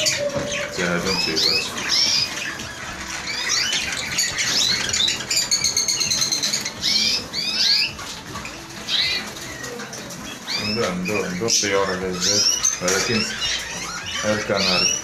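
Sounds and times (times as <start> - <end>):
caged birds chirping: 0.0 - 15.0
rapid bird trill: 0.0 - 15.0.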